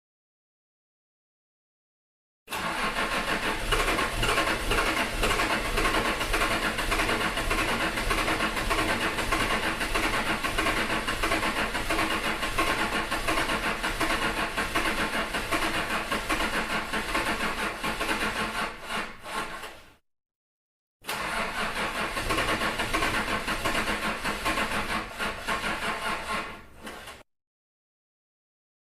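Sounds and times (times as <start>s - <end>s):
truck engine cranking: 2.5s - 19.8s, 21.1s - 27.2s.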